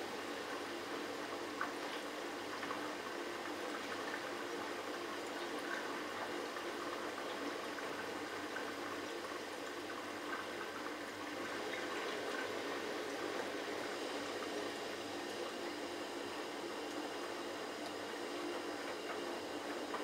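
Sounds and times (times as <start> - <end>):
faint machine hum: 0.0 - 20.0
water sloshing in washing machine: 0.2 - 20.0.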